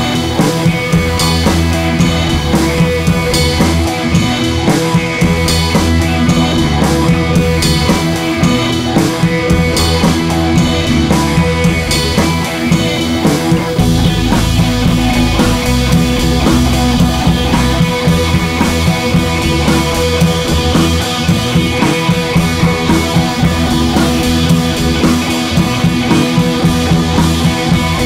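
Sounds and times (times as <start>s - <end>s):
rock music with drums and guitar: 0.0s - 28.0s.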